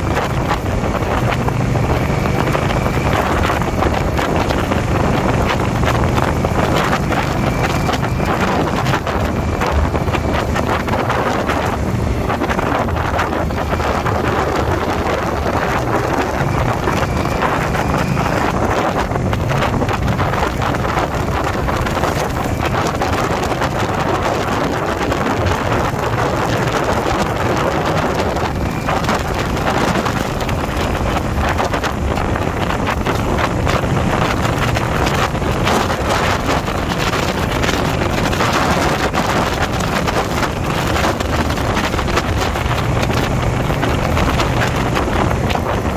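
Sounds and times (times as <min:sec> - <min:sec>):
motorcycle engine: 0:00.0 - 0:45.9
road noise: 0:00.0 - 0:45.9
wind buffeting microphone: 0:00.0 - 0:45.9.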